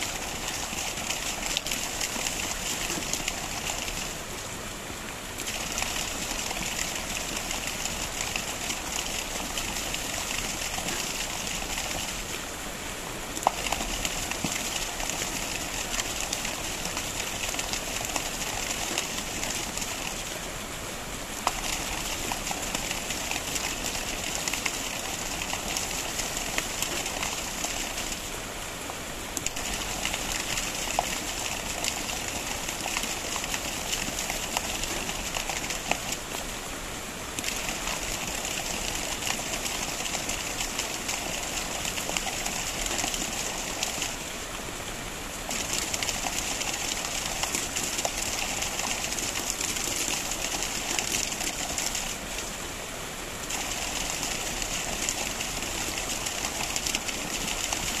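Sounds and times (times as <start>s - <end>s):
water splashing over boulders: 0.0s - 58.0s.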